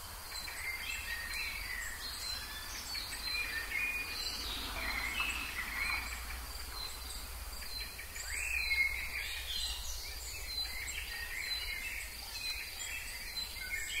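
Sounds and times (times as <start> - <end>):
high insect drone: 0.0 - 14.0
birds chirping and calling: 0.3 - 14.0.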